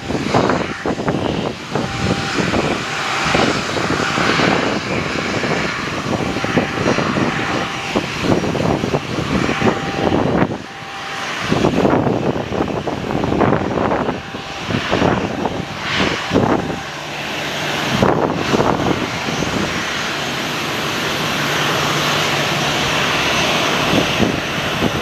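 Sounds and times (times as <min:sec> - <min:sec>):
airplane engines droning: 0:00.0 - 0:25.0
wind buffeting microphone: 0:00.0 - 0:25.0.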